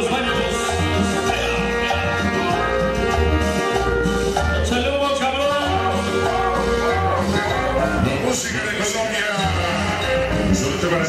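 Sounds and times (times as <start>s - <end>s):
loud salsa music: 0.0s - 11.0s.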